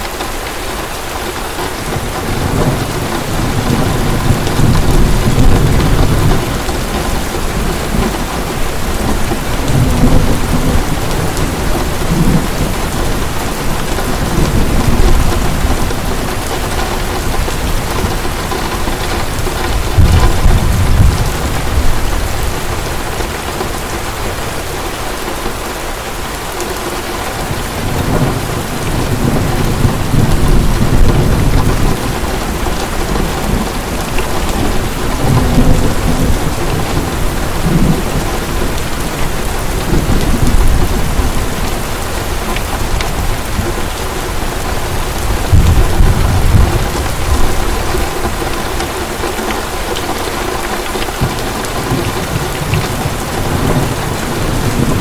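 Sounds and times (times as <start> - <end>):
heavy rain pouring: 0.0 - 55.0
thunder rumbling: 1.7 - 25.0, 27.0 - 55.0.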